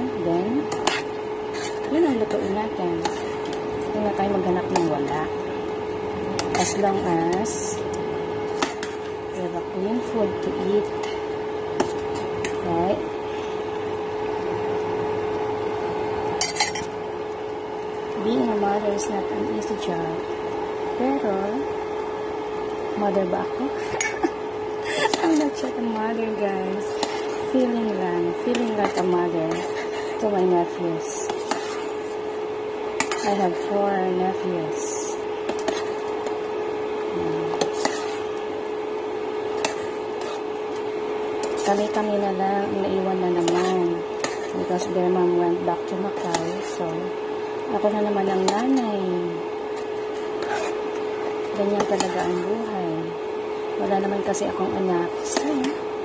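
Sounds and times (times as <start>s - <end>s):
pot of stew cooking: 0.0s - 56.0s
steady kitchen hum: 0.0s - 56.0s.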